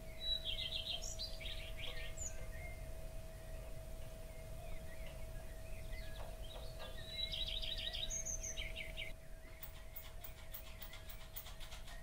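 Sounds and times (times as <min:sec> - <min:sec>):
faint hum: 0:00.0 - 0:10.2
birds chirping: 0:00.0 - 0:12.0.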